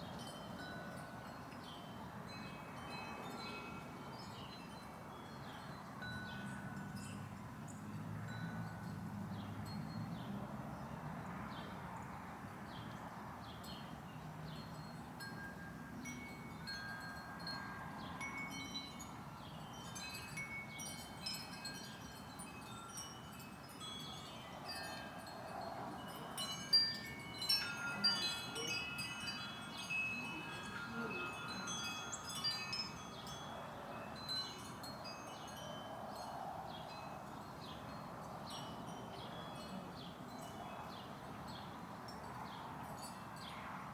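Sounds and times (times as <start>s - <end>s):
wind chimes ringing: 0.0s - 10.3s, 13.6s - 43.8s.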